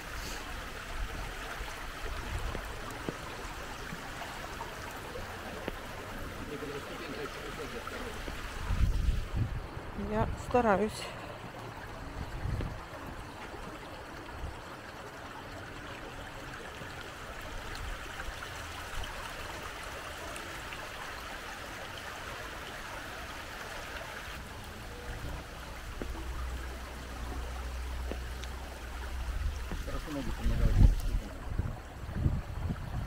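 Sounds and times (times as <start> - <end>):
stream trickling over rocks: 0.0 - 33.0.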